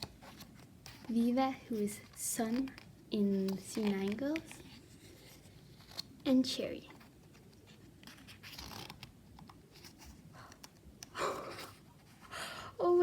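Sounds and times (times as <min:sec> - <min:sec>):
book pages rustling: 0:00.0 - 0:12.3.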